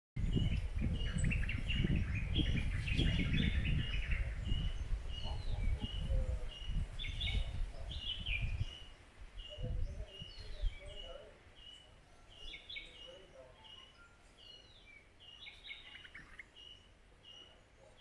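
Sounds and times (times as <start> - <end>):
garden birds calling: 0.2 - 18.0.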